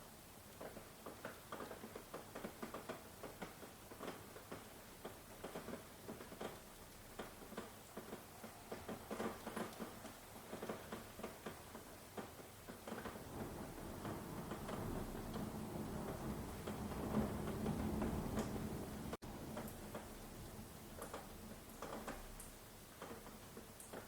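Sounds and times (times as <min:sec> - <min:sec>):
faint hiss of rainfall: 0:00.0 - 0:24.0
raindrops tapping: 0:00.4 - 0:24.0.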